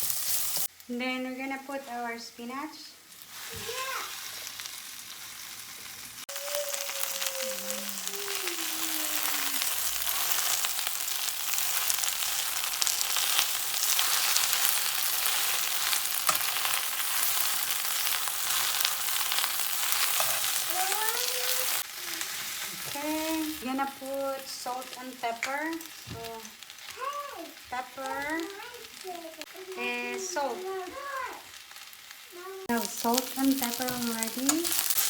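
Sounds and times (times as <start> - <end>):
spinach sizzling in a frying pan: 0.0 - 35.0.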